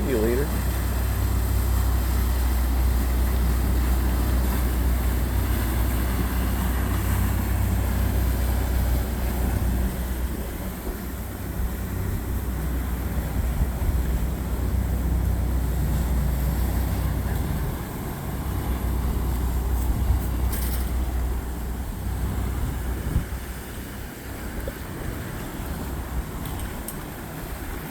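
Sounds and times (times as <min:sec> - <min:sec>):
motorboat engines rumbling: 0:00.0 - 0:27.9.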